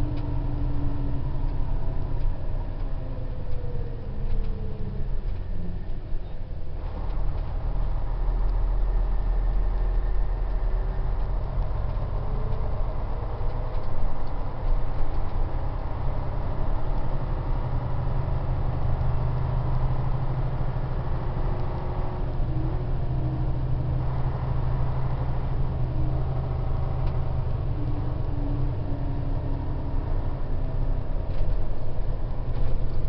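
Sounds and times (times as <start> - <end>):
diesel engine drone in bus cabin: 0.0 - 33.0
road noise: 0.0 - 33.0.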